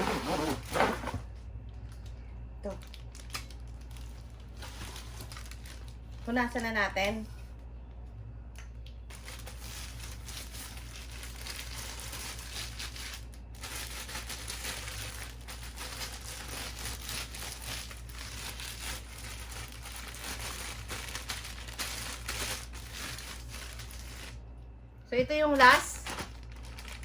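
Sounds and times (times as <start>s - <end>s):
plastic packaging crinkling: 1.8s - 6.8s, 9.0s - 24.4s, 25.5s - 27.0s.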